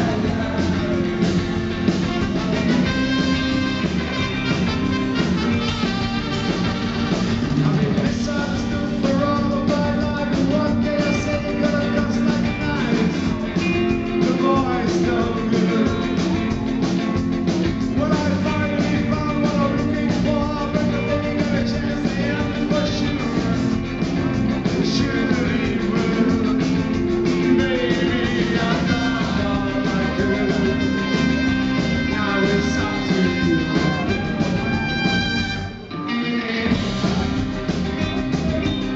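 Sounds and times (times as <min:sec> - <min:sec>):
man singing lead: 0:00.0 - 0:38.9
rock band playing: 0:00.0 - 0:38.9.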